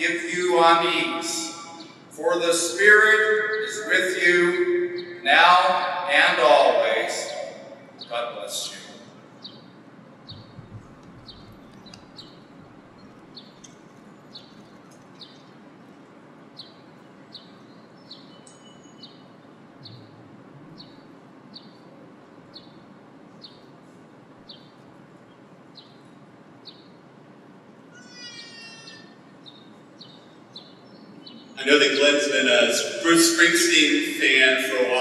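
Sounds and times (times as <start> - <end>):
bird chirping: 0.0 - 15.7, 16.5 - 23.8, 24.5 - 27.1, 28.0 - 35.0
outdoor background noise: 0.0 - 35.0.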